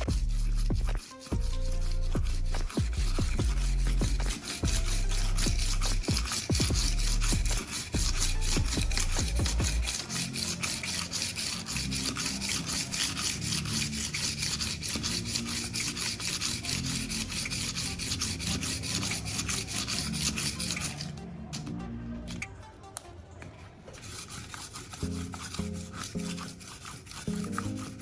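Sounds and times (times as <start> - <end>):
knife scraping on sharpening stone: 0.0 - 21.2, 24.0 - 28.0.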